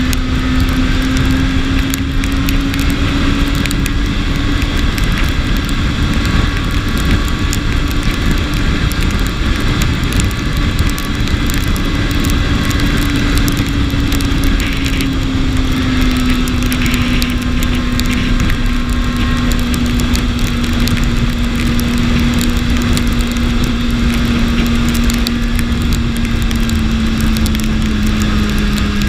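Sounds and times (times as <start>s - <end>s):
motorcycle engine drone: 0.0s - 29.0s
rush of riding wind: 0.0s - 29.0s.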